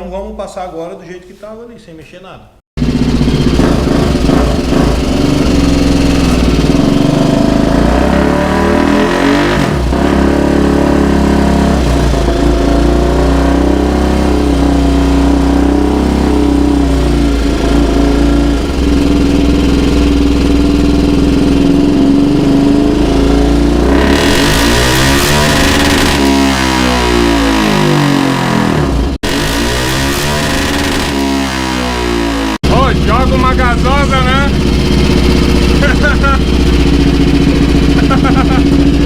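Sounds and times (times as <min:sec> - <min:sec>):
motorcycle engine running: 0:02.8 - 0:39.0.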